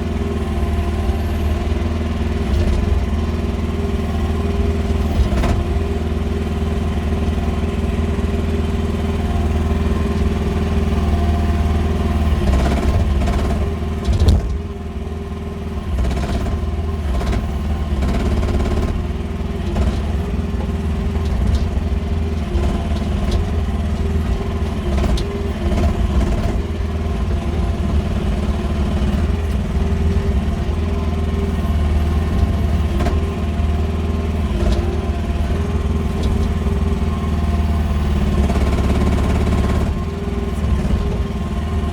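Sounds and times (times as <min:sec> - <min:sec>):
excavator engine running: 0:00.0 - 0:41.9
clunks and knocks: 0:00.4 - 0:06.2, 0:09.4 - 0:14.9, 0:15.8 - 0:41.9.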